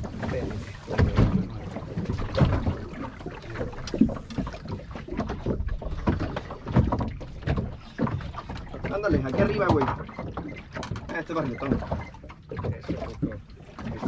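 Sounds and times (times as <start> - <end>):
water slapping against boat hull: 0.0 - 14.0.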